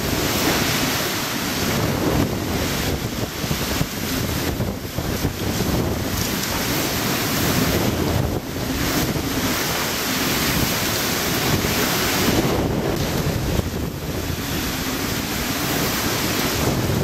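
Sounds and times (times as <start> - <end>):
strong wind gusts: 0.0 - 17.0
wind buffeting microphone: 0.0 - 17.0
wind-driven rain: 0.0 - 17.0.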